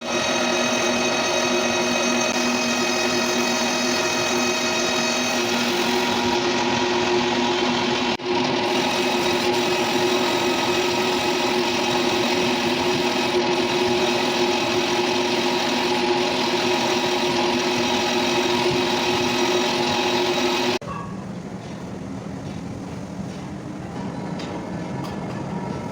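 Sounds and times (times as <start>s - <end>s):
metal lathe whining and cutting: 0.0s - 20.8s.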